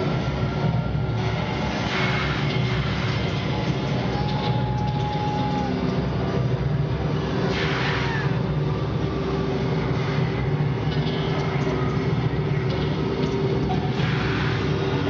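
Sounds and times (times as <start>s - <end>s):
crowd noise: 0.0s - 15.0s
low rumbling drone: 0.0s - 15.0s.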